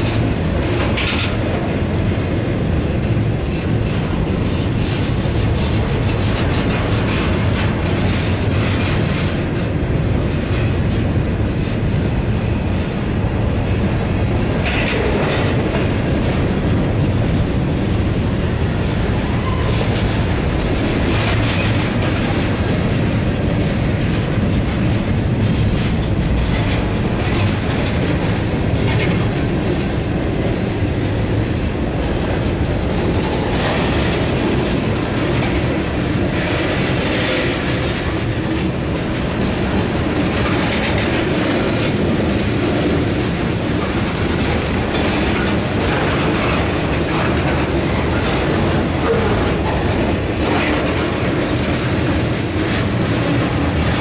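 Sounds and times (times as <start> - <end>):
freight train rumble: 0.0 - 54.0
wheel clacks over rails: 0.0 - 54.0.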